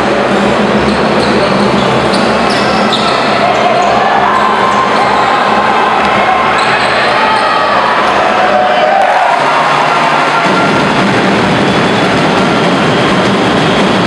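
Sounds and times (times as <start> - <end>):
loud crowd din: 0.0 - 14.0.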